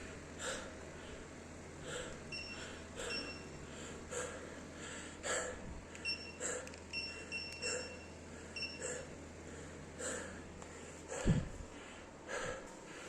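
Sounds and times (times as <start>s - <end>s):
person breathing hard: 0.4s - 13.0s.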